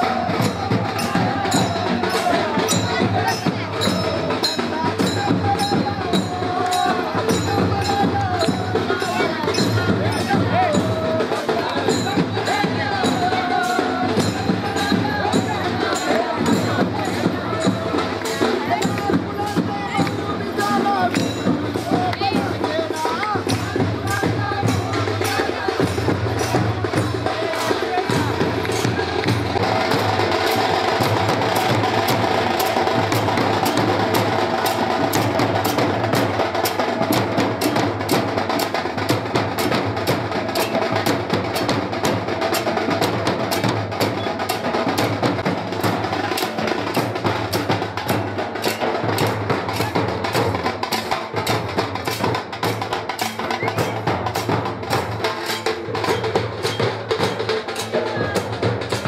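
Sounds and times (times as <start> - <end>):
barrel drums beaten fast: 0.0 - 59.0.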